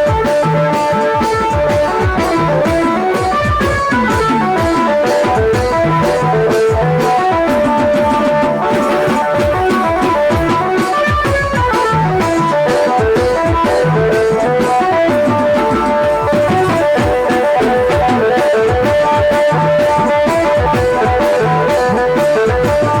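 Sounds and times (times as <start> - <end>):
band lead melody: 0.0 - 23.0
driving drum beat: 0.0 - 23.0.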